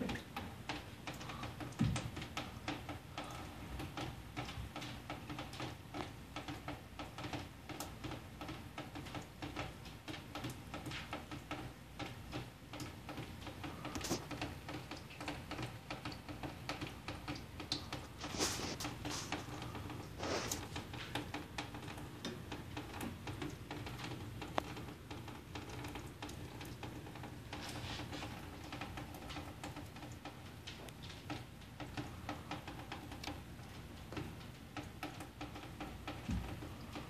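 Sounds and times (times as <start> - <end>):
water dripping: 0.0 - 37.0.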